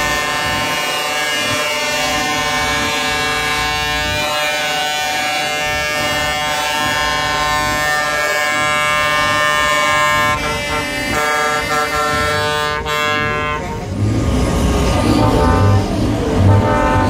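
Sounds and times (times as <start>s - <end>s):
truck air horns blast: 0.0s - 17.0s.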